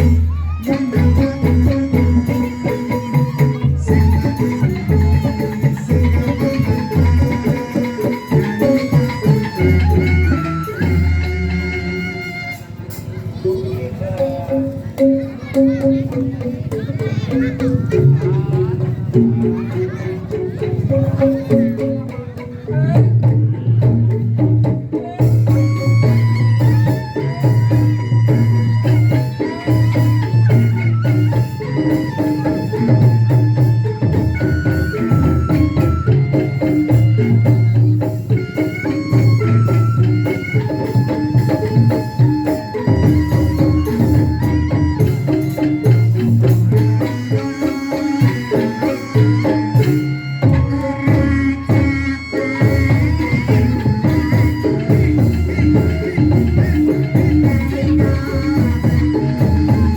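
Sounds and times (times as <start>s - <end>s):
drums keeping a beat: 0.0s - 59.9s
live folk-pop band playing: 0.0s - 59.9s.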